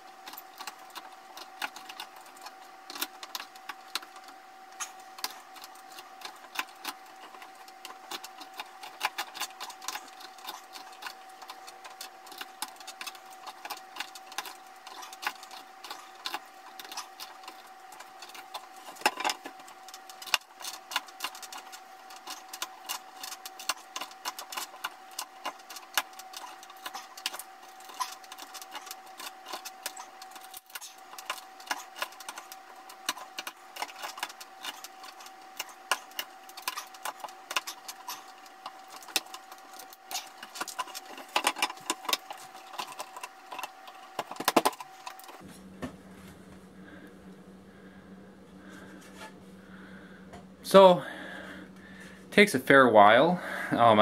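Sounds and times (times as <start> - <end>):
faint high hum: 0.0 - 54.0.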